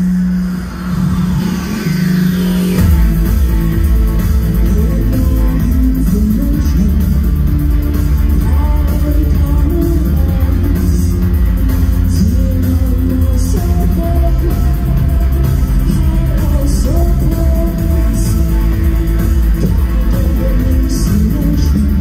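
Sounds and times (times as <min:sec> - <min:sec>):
heavy bass and keyboards: 0:00.0 - 0:22.0.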